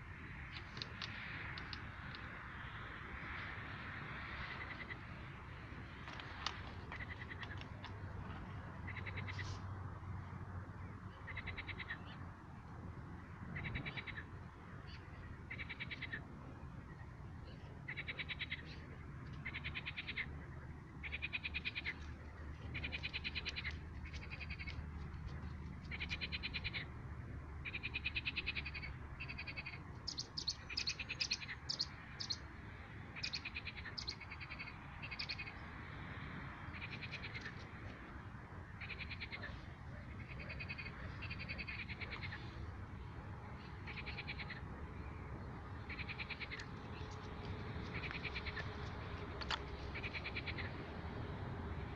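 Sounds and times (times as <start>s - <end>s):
frogs croaking: 0.1s - 7.8s, 8.4s - 9.5s, 10.8s - 12.2s, 13.2s - 16.3s, 17.8s - 24.8s, 27.6s - 51.9s.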